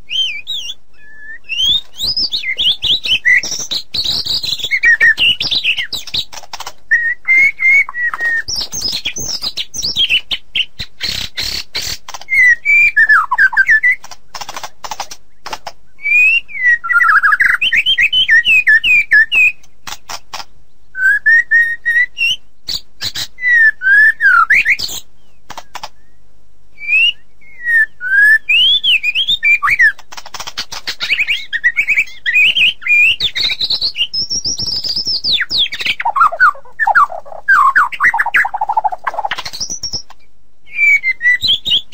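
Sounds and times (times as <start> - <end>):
bird singing whistled notes: 0.0 - 6.3, 6.9 - 14.0, 16.0 - 19.6, 20.9 - 25.4, 26.8 - 30.0, 30.9 - 41.9.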